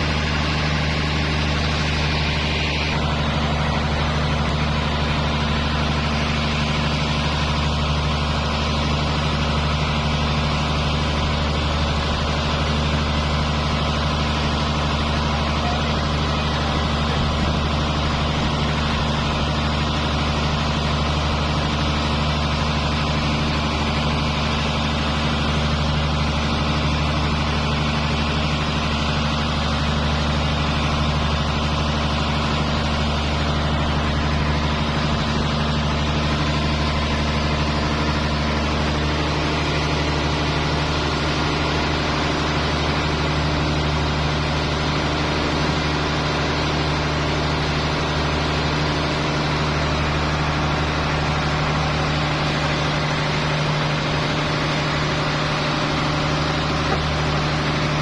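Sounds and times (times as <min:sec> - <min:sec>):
boat engine running steadily: 0:00.0 - 0:58.0.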